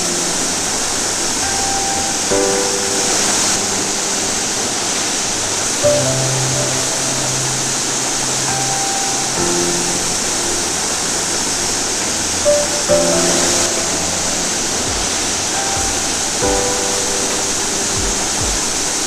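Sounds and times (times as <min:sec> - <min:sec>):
background music of held notes: 0:00.0 - 0:19.0
waterfall rushing: 0:00.0 - 0:19.0.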